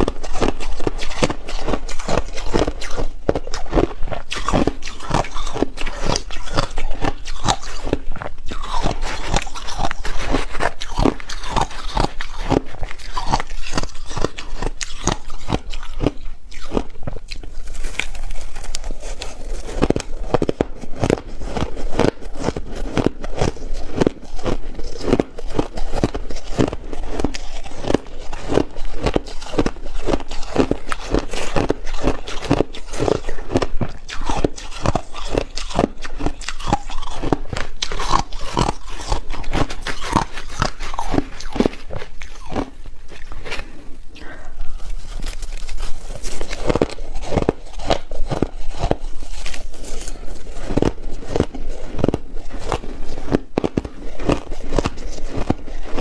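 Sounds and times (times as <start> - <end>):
person chewing ice: 0.0 - 56.0.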